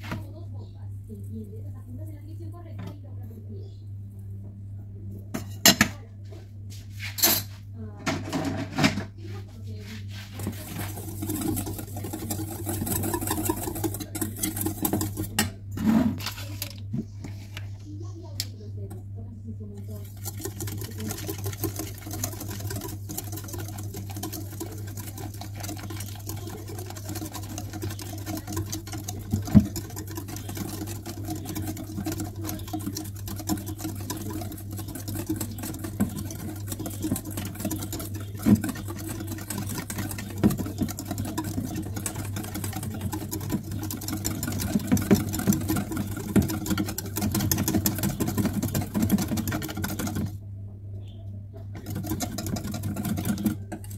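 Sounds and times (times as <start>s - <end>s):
steady low hum: 0.0s - 53.9s
wire whisk beating in metal bowl: 7.4s - 16.8s, 18.2s - 50.4s, 51.6s - 53.9s.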